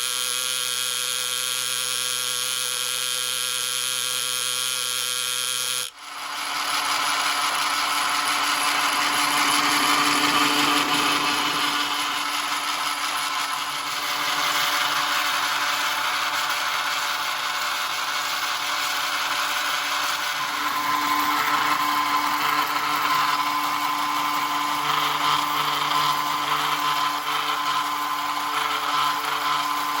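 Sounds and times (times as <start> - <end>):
small motor whirring: 0.0 - 30.0.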